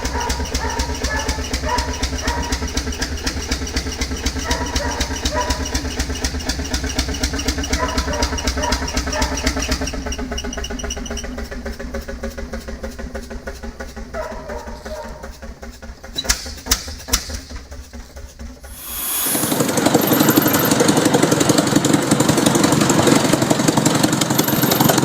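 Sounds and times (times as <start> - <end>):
large engine running: 0.0 - 25.0.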